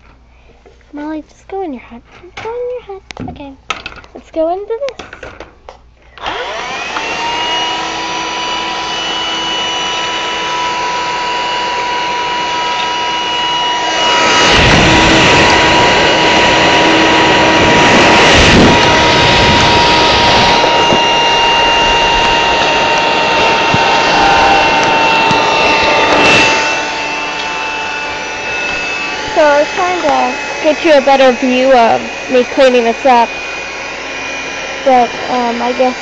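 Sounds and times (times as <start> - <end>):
handheld vacuum cleaner motor whine: 6.1 - 36.0
vacuum sucking up bedding rattling: 6.2 - 36.0.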